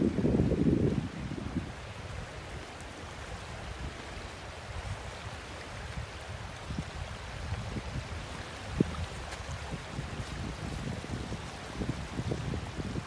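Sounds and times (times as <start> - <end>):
small waves lapping: 0.0 - 13.0
wind rumbling on microphone: 0.0 - 13.0.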